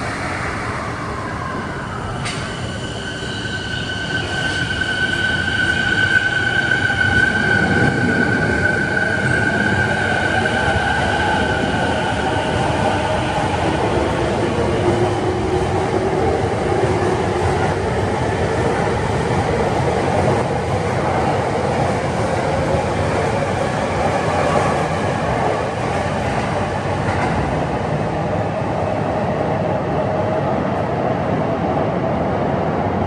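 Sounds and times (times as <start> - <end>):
train wheels on rails: 0.0 - 28.1.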